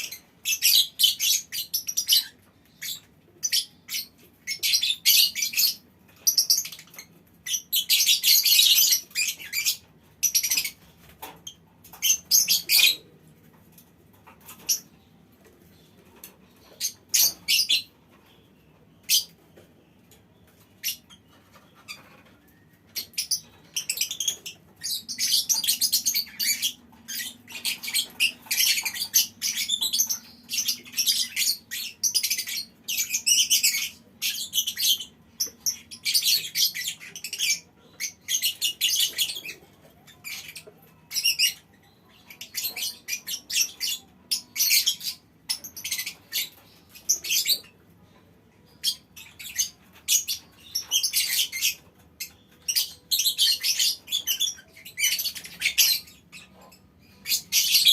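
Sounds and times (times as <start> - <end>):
lovebirds chattering: 0.0 - 57.9.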